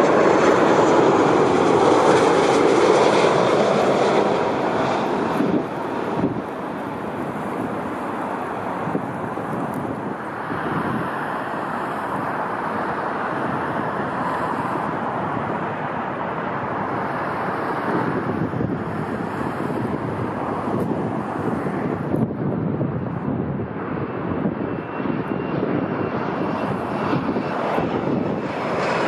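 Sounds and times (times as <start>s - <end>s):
distant jet engines roaring: 0.0s - 29.0s
wind buffeting microphone: 0.0s - 29.0s.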